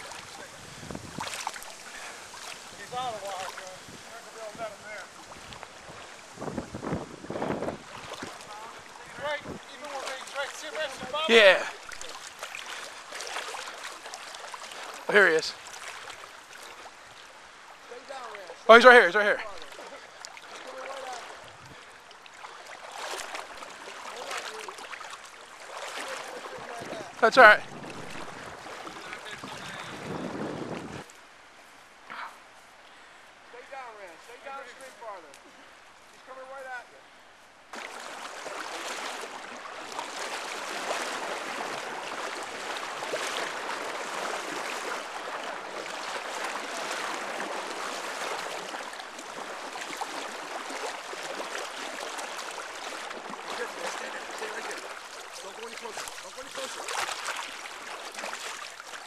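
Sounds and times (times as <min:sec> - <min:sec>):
water splashing: 0:00.0 - 0:31.1, 0:37.7 - 0:59.0
flowing river water: 0:00.0 - 0:59.0.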